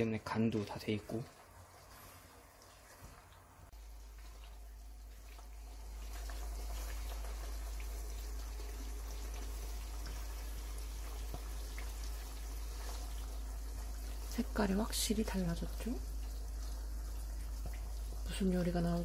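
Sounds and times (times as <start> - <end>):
fish bubbling in oil: 0.0 - 19.0.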